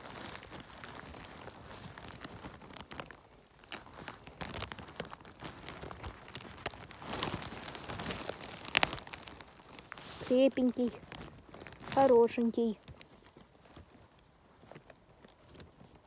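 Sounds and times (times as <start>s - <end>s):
leaf litter rustling: 0.0s - 16.0s
twigs snapping: 0.0s - 16.0s.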